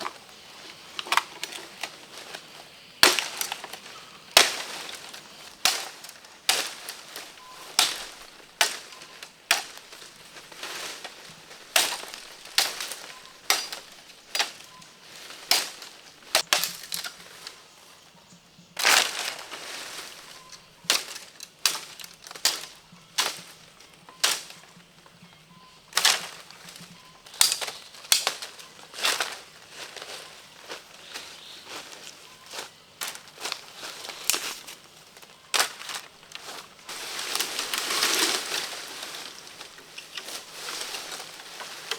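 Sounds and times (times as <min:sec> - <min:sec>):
sharp cracks and crunches: 0:00.0 - 0:17.6, 0:18.8 - 0:24.8, 0:25.9 - 0:41.9.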